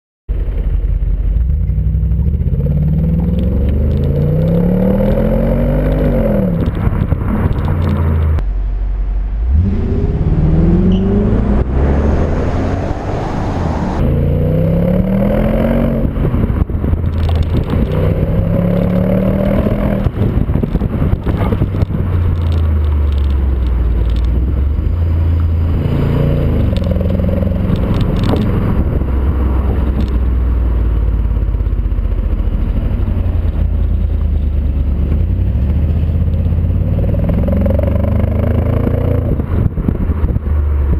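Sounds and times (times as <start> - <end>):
car engine accelerating: 0.3 - 40.9.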